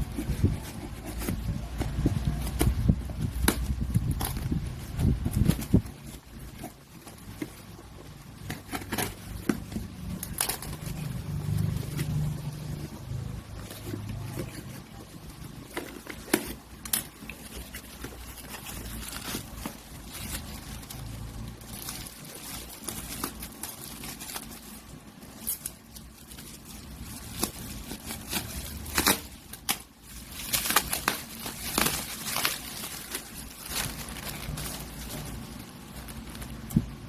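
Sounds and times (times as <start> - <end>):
low steady hum: 0.0 - 37.0
plastic packaging crinkling: 0.0 - 37.0.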